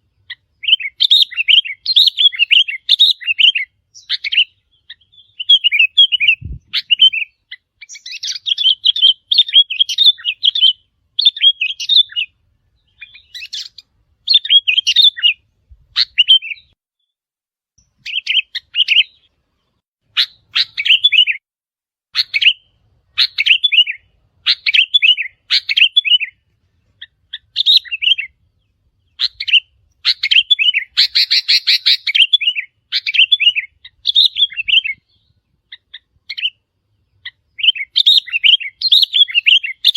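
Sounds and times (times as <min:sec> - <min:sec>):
bird whistled song: 0:00.0 - 0:17.1, 0:17.8 - 0:21.4, 0:22.1 - 0:39.9.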